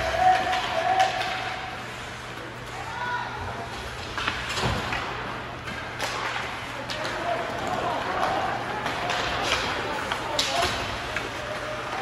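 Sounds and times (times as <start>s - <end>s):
hockey sticks and puck clacking: 0.0s - 2.9s, 3.7s - 12.0s.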